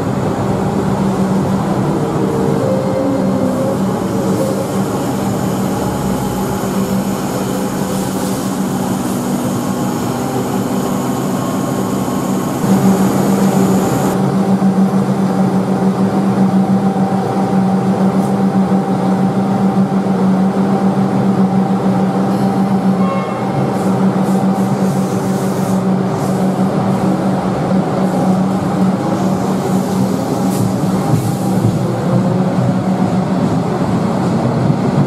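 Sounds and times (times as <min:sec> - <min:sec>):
electric train humming: 0:00.0 - 0:35.0.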